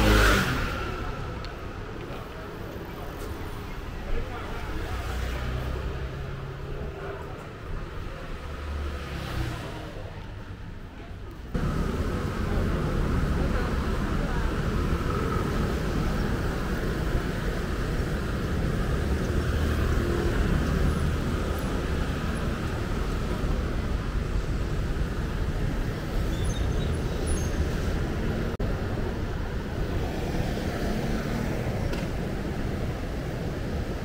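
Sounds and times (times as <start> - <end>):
city street traffic: 0.0 - 34.0.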